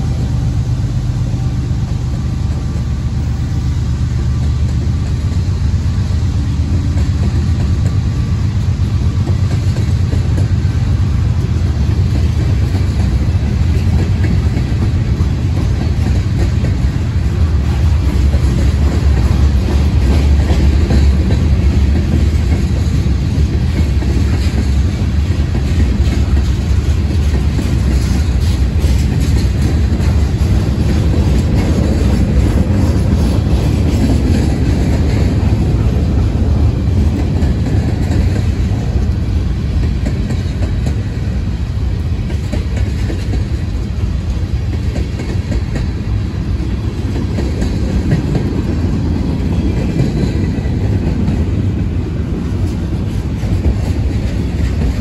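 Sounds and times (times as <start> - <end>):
train wheels rumbling on rails: 0.0 - 55.0
wheels clacking over rail joints: 0.0 - 55.0.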